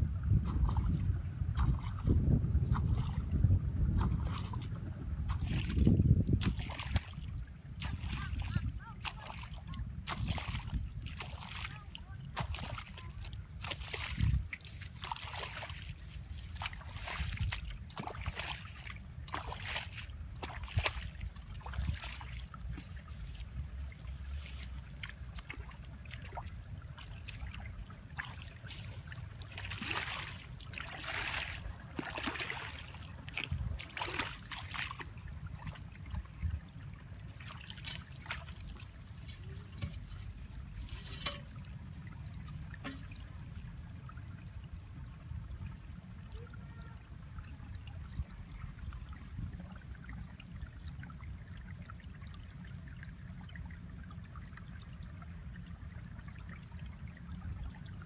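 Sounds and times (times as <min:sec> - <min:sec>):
shallow water splashing: 0:00.4 - 0:58.0.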